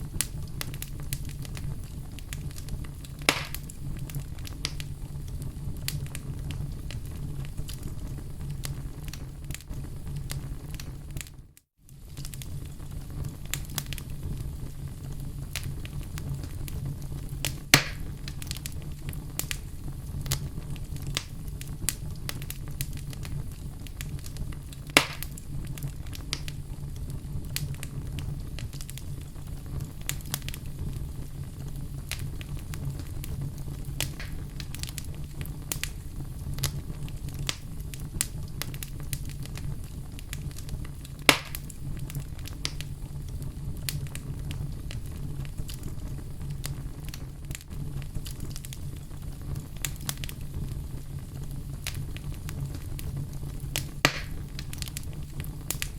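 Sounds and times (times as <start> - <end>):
fire crackling: 0.0 - 55.9
loud fire pops: 0.0 - 55.9
low rumble of flames: 0.0 - 55.9.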